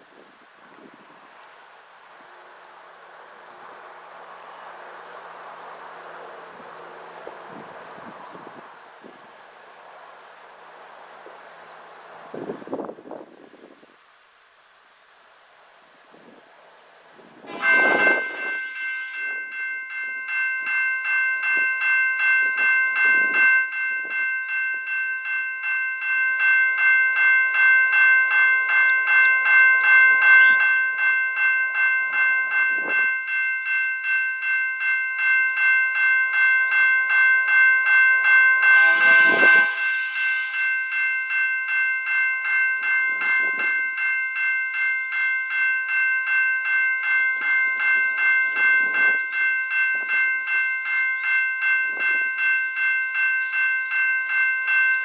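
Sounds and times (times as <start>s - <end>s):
railroad crossing bell ringing: 0.0s - 14.0s, 16.0s - 55.0s.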